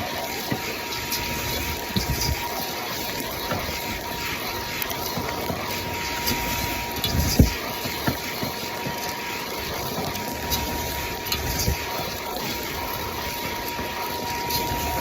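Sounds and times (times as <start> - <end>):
fan air rushing with whine: 0.0 - 15.0.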